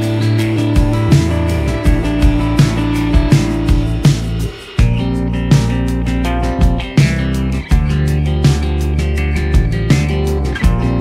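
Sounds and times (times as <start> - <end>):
music with steady beat: 0.0 - 11.0
plucked guitar: 0.0 - 11.0.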